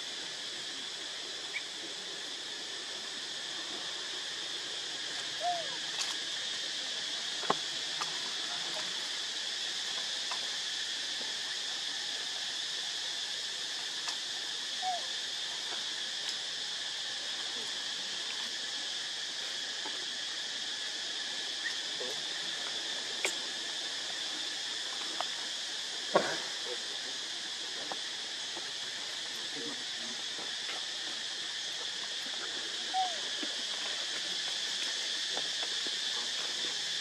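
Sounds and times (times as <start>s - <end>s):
insect chorus drone: 0.0s - 37.0s.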